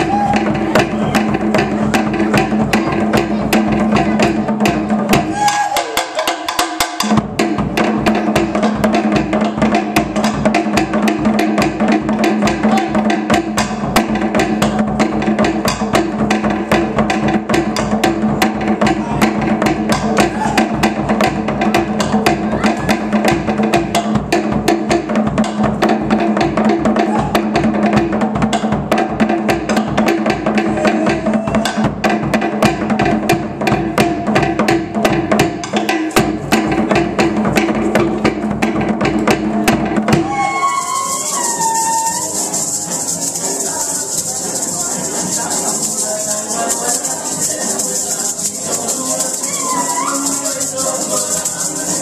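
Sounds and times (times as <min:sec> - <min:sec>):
deep drum: 0:00.0 - 0:05.8, 0:06.4 - 0:42.3
fast drum music: 0:00.0 - 0:52.0.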